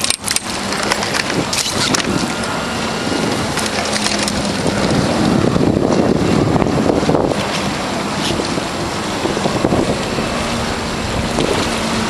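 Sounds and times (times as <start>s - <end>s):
outboard motor humming: 0.0s - 12.0s
wind on microphone: 0.0s - 12.0s.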